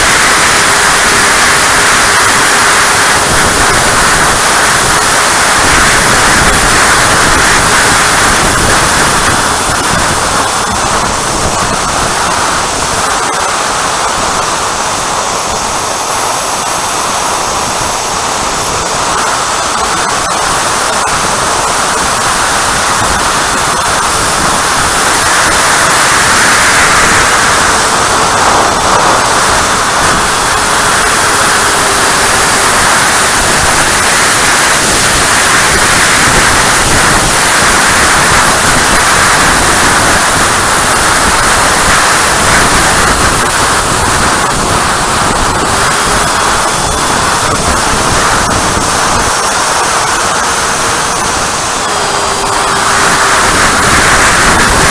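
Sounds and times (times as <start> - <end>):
model jet fan whine: 0.0 - 54.9
wind buffeting microphone: 0.0 - 54.9.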